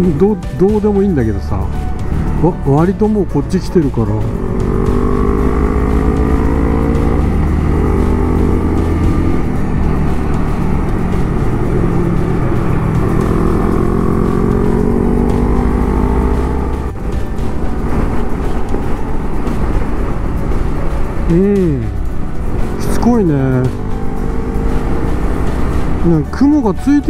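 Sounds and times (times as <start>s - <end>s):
rushing wind: 1.7s - 26.3s
motorcycle engine running: 1.7s - 27.0s.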